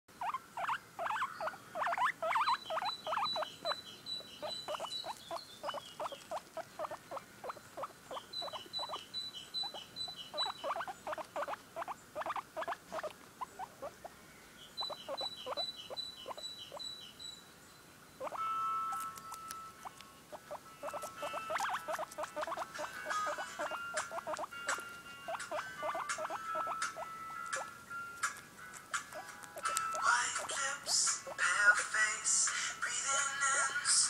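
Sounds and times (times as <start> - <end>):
guinea pig chewing lettuce: 0.2 - 13.9, 14.8 - 16.8, 18.2 - 32.0.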